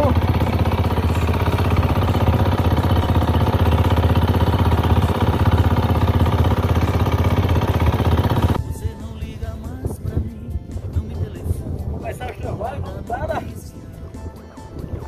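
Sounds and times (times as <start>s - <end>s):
boat engine running: 0.0s - 14.2s.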